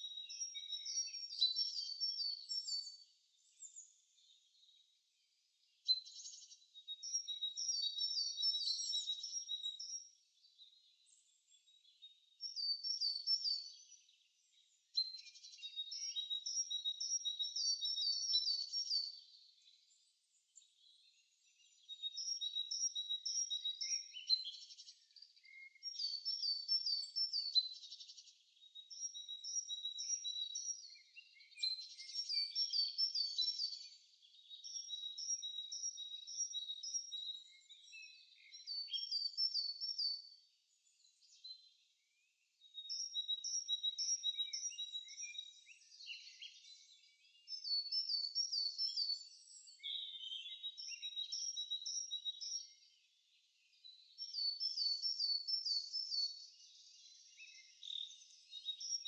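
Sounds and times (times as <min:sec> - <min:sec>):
faint bird chirps: 0:00.0 - 0:59.0.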